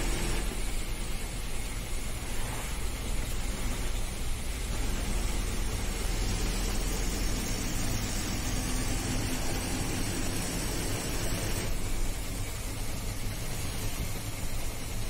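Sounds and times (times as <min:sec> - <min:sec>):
low engine rumble: 0:00.0 - 0:15.0
tyres hissing on wet road: 0:00.0 - 0:15.0.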